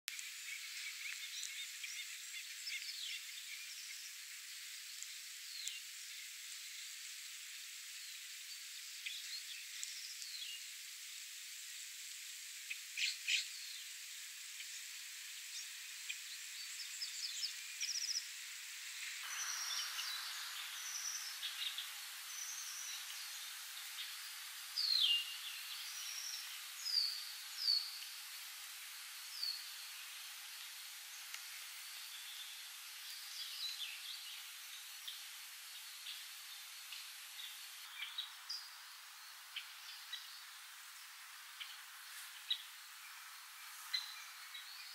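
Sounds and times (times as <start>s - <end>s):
light rain hissing: 0.1s - 44.9s.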